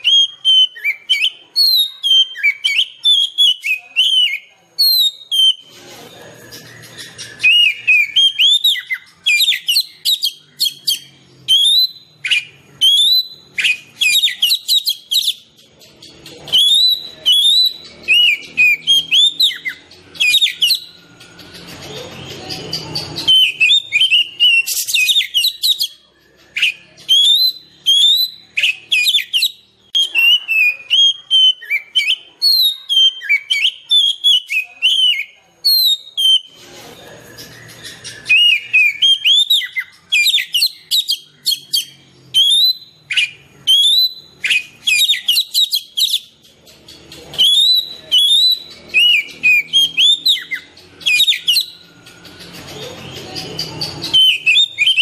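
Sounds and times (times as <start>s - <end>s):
bird singing whistled song: 0.0s - 55.0s.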